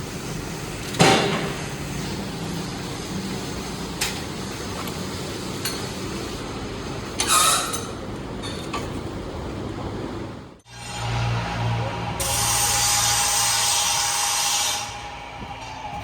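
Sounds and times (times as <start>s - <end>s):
metal workshop machinery: 0.0s - 9.0s, 10.6s - 16.0s.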